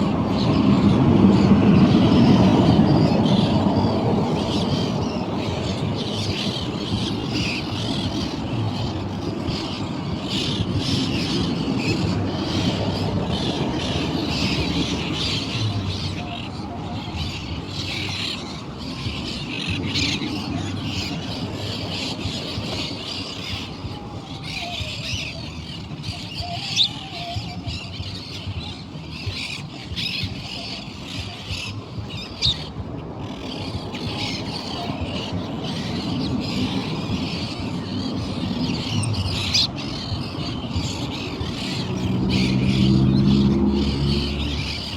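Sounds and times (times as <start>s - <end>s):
birds squawking: 0.0s - 44.9s
sharp bird calls: 0.0s - 44.9s.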